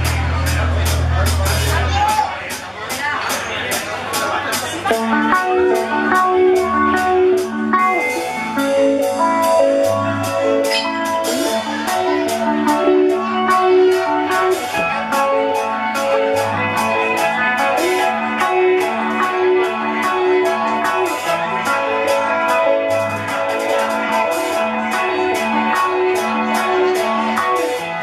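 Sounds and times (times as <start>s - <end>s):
drum kit cymbal beat: 0.0s - 28.0s
rock band playing: 0.0s - 28.0s.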